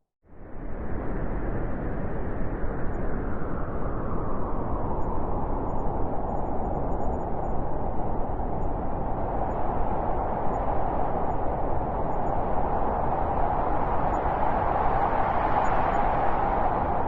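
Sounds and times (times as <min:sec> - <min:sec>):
howling blizzard wind: 0:00.3 - 0:17.0.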